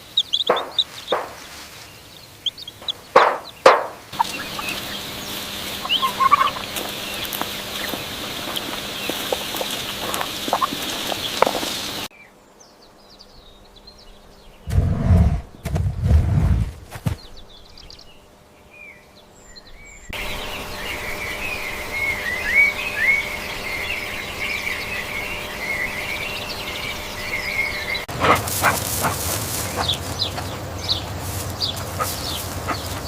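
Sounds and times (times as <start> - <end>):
small birds chirping: 0.0 - 14.8, 17.0 - 33.0.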